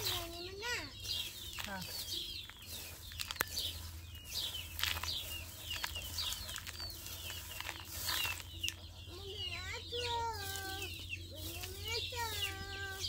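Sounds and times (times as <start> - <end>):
birds chirping: 0.0 - 13.0
twig broom sweeping dry ground: 0.0 - 13.0.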